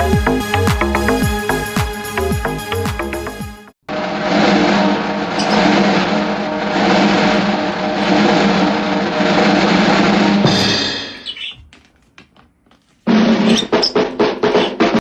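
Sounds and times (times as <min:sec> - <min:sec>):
drum kit playing rapid hits: 0:00.0 - 0:03.6, 0:04.2 - 0:11.5, 0:13.1 - 0:15.0.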